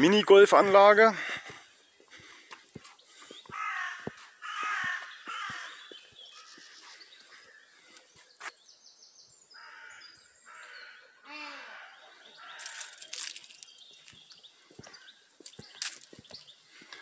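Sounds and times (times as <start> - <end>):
light footsteps on a path: 0.0 - 8.8, 12.2 - 17.0
harsh bird calls: 0.0 - 17.0.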